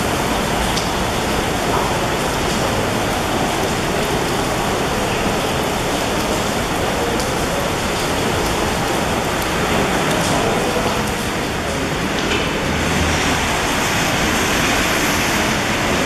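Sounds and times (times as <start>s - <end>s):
heavy rain on standing water: 0.0s - 16.0s.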